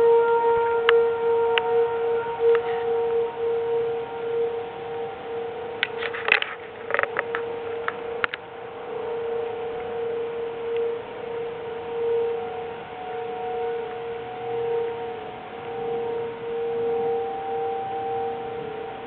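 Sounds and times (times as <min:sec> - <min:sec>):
warning siren steady tone: 0:00.0 - 0:19.0.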